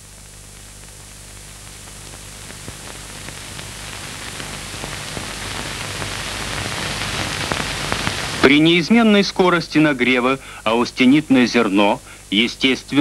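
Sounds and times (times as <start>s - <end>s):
film soundtrack hiss: 0.0s - 13.0s
scattered crackles: 0.0s - 13.0s.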